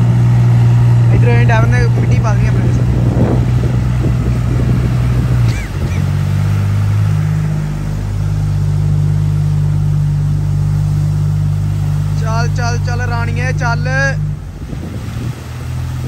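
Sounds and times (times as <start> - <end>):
vehicle engines droning: 0.0 - 16.0.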